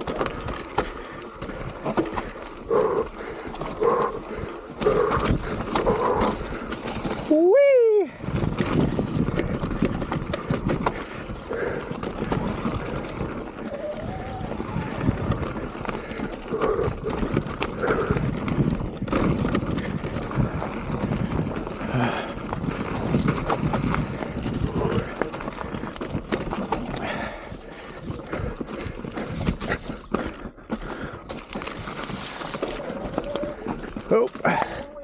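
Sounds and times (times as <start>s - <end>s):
tyre and wind rush: 0.0s - 30.0s
bike rattling over roots: 0.0s - 35.0s.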